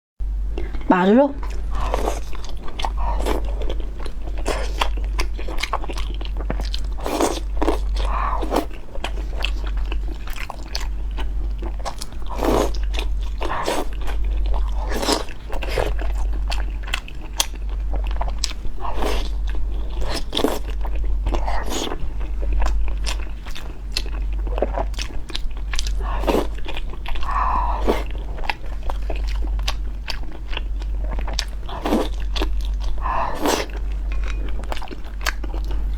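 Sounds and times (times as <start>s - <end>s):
steady low hum: 0.2s - 35.9s
crunchy food chewing: 0.6s - 35.9s.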